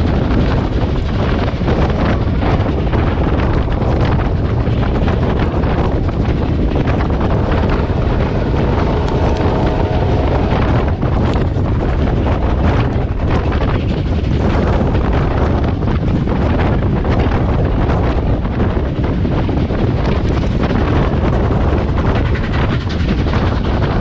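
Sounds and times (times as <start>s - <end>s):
moving train rumble: 0.0s - 24.0s
wind buffeting microphone: 0.0s - 24.0s.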